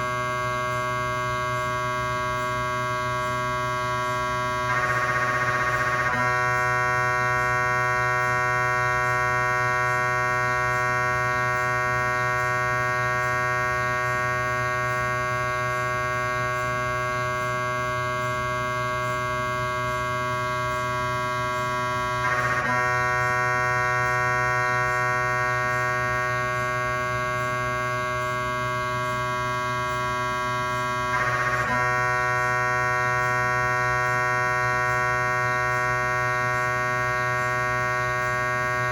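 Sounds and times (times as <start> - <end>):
mri scanner buzzing drone: 0.0 - 38.9.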